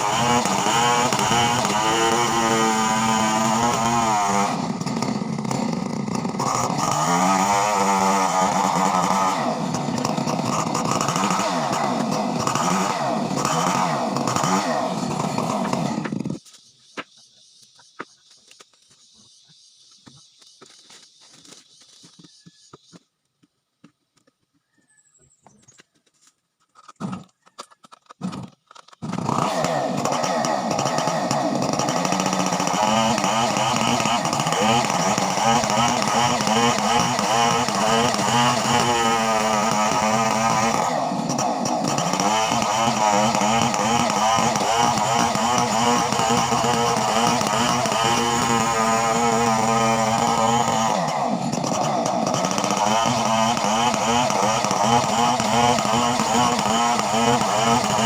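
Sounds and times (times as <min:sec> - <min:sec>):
chainsaw engine running: 0:00.0 - 0:18.1, 0:26.9 - 0:58.0.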